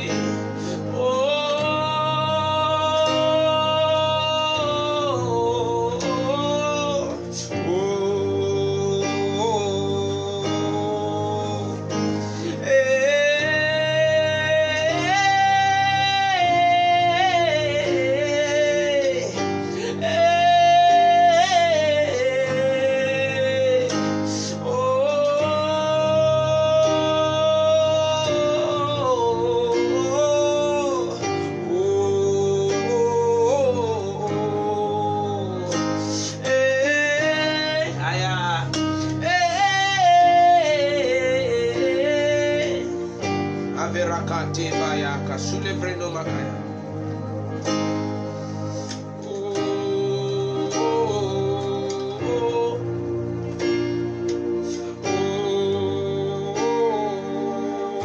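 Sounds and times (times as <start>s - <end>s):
acoustic guitar: 0.0s - 58.0s
person singing wordless notes: 0.0s - 58.0s.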